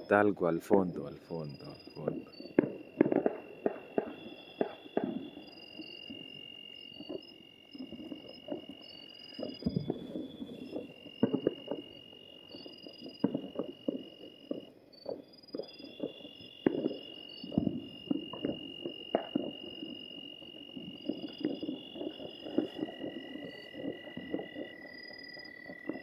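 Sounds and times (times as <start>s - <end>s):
distant firecrackers popping: 0.0s - 26.0s
night insects trilling: 0.0s - 26.0s.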